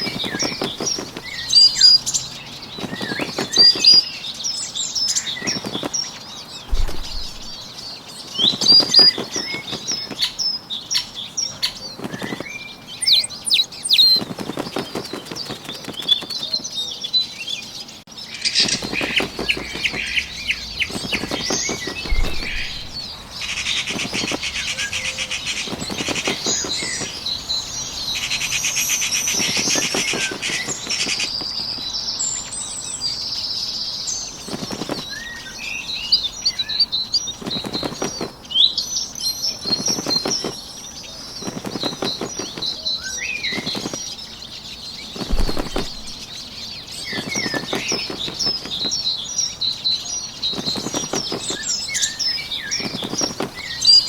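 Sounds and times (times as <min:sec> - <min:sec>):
wings flapping: 0:00.0 - 0:16.8, 0:18.4 - 0:32.0, 0:34.3 - 0:35.5, 0:36.7 - 0:54.0
small birds chirping: 0:00.0 - 0:54.0.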